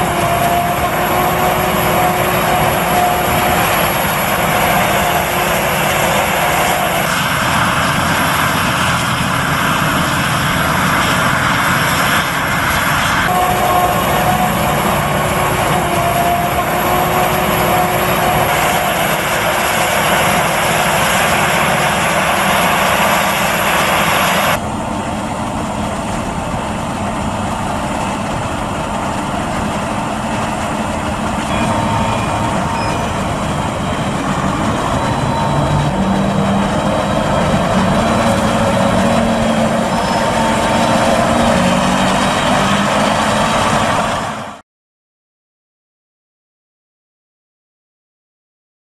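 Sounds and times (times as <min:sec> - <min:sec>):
forage harvester running: 0:00.0 - 0:44.6.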